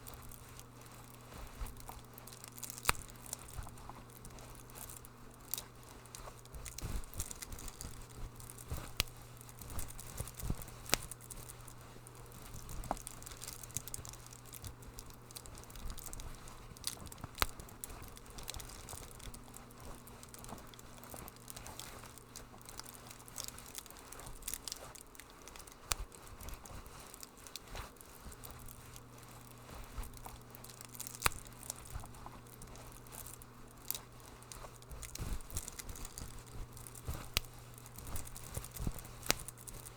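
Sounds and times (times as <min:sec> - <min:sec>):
low steady hum: 0:00.0 - 0:39.9
wood fire crackling: 0:00.0 - 0:39.9.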